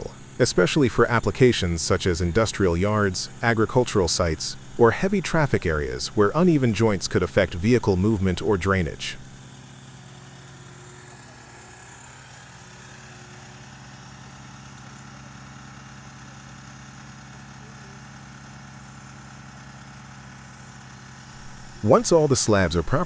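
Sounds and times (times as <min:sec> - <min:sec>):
heavy machine engine idling: 0:00.0 - 0:23.0.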